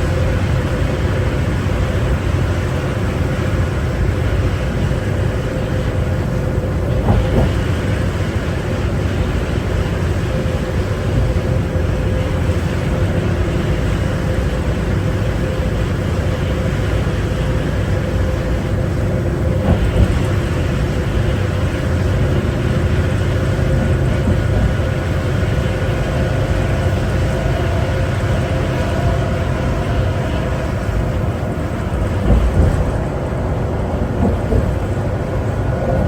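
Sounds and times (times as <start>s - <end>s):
bus diesel engine rumble: 0.0s - 36.0s
faint whining tones: 0.0s - 36.0s
road noise: 0.0s - 36.0s.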